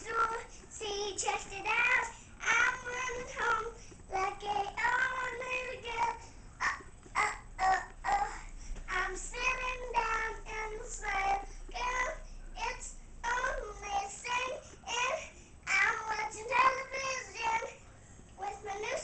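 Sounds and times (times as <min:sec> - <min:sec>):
girl singing unaccompanied: 0:00.0 - 0:17.8, 0:18.4 - 0:19.0.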